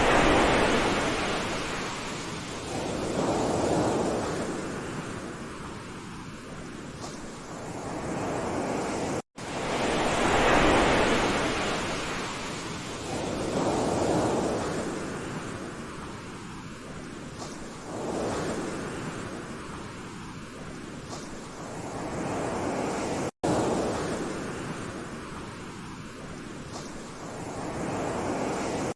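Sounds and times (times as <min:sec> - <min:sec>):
waves washing in and out: 0:00.0 - 0:28.9.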